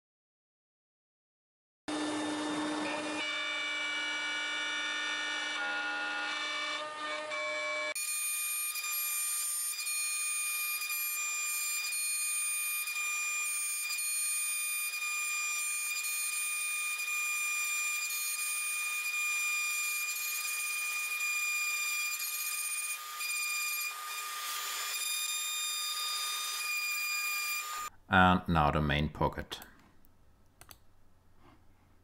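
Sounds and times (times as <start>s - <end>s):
router spindle whining: 1.9s - 27.9s.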